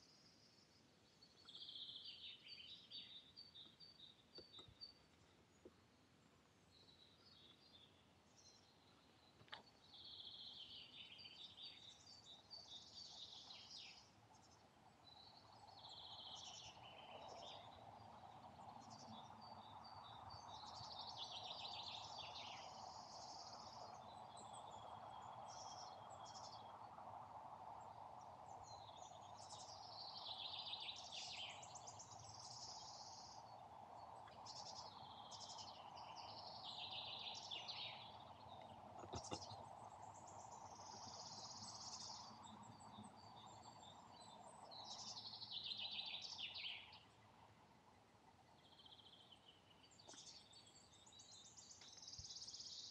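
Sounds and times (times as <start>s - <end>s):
faint background hiss: 0.0s - 52.9s
songbirds chirping: 0.0s - 52.9s.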